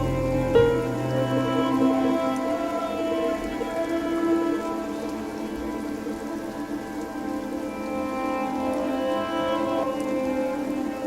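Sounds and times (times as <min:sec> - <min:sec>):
ambient music sustained chords: 0:00.0 - 0:11.0
fountain water splashing: 0:00.0 - 0:11.0.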